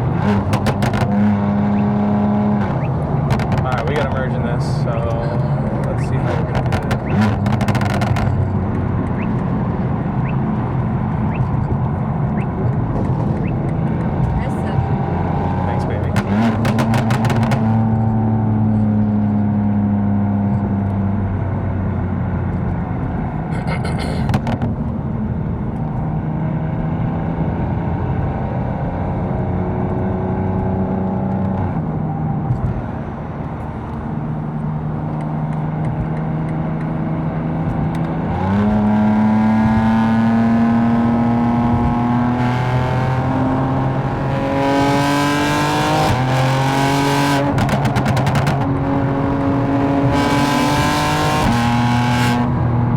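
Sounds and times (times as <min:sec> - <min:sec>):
car engine in cabin: 0:00.0 - 0:52.9
highway traffic: 0:00.0 - 0:52.9.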